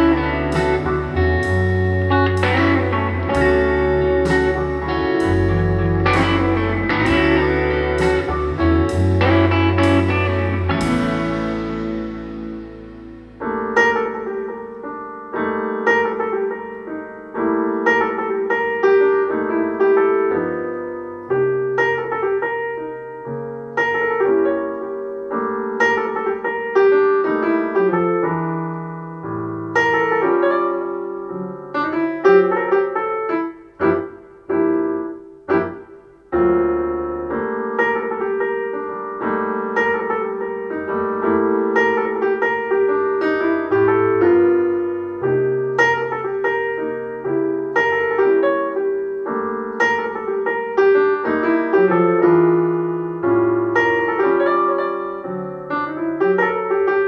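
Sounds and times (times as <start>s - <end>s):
jazz piano through speakers: 0.0s - 57.0s.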